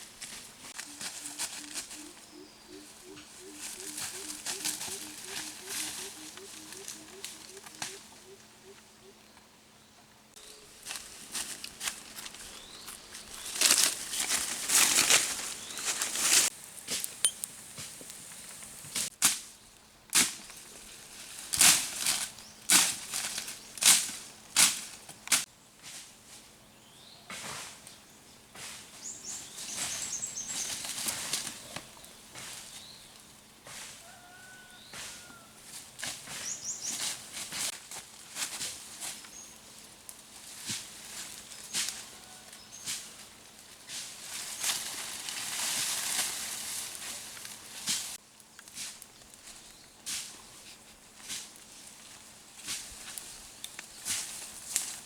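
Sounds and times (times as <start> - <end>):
rustling and crackling handling: 0.0 - 8.1, 10.4 - 19.2, 20.2 - 25.5, 29.4 - 33.3, 35.7 - 55.0.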